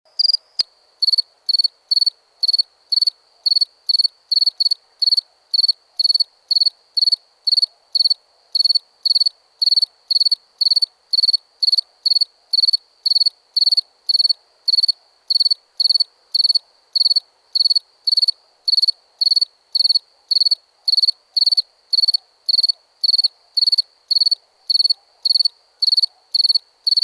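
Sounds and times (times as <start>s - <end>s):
cricket chirping: 0.1s - 27.0s.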